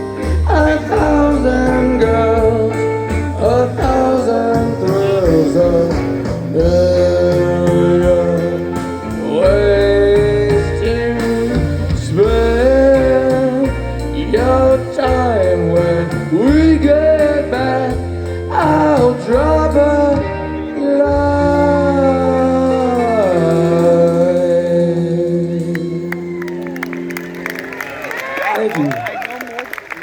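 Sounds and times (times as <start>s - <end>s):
stepping bass line: 0.0s - 24.9s
rock band playing slow ballad: 0.0s - 28.4s.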